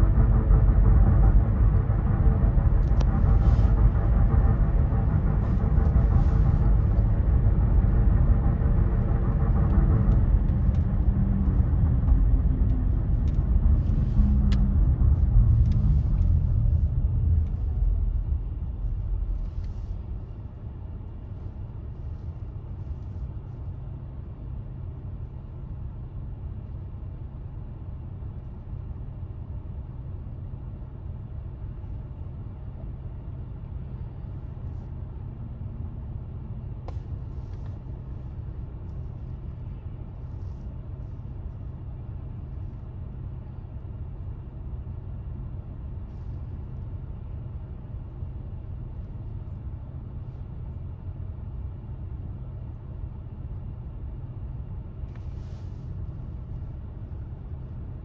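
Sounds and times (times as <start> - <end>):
motor vehicle engine rumble: 0.0 - 58.0.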